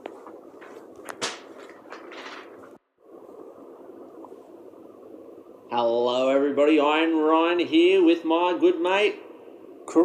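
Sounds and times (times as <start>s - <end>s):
faint room noise: 0.0s - 10.0s.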